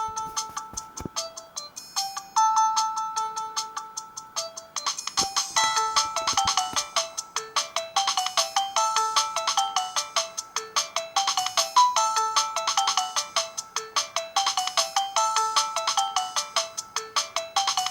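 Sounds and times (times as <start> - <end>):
synthesized phone ringtone: 2.0 - 17.9.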